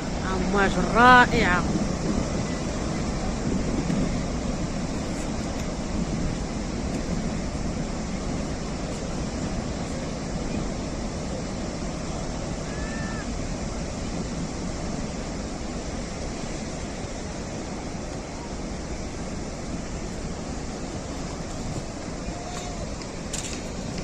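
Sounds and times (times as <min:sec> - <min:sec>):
surf breaking on shore: 0:00.0 - 0:24.0
wind on microphone: 0:00.0 - 0:24.0.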